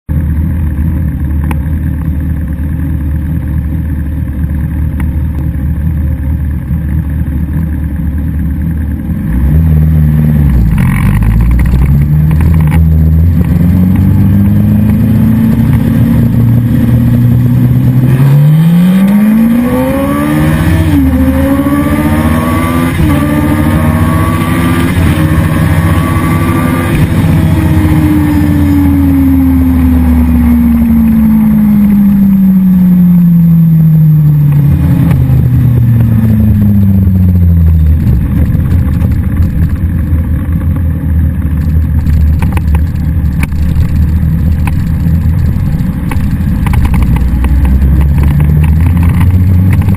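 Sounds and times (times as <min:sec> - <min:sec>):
motorcycle engine revving and idling: 0:00.1 - 0:49.9.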